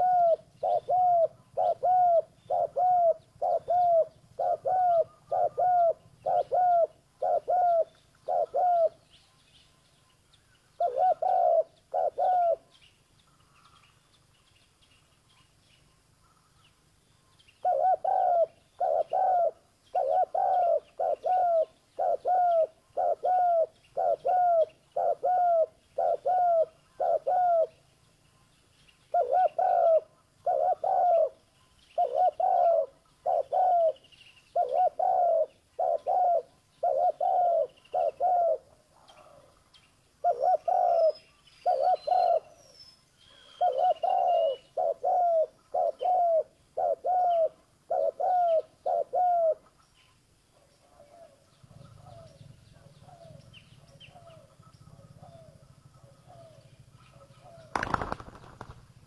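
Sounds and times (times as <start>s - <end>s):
dove cooing: 0.0s - 9.0s, 10.7s - 12.8s, 17.6s - 27.8s, 29.1s - 31.4s, 32.0s - 39.6s, 40.2s - 42.6s, 43.2s - 49.8s, 50.5s - 59.0s.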